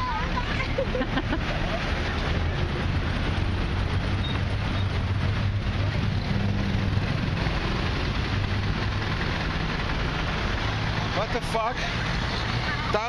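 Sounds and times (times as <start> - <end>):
continuous rushing noise: 0.0 - 13.0
vehicle engine hum: 0.0 - 13.0.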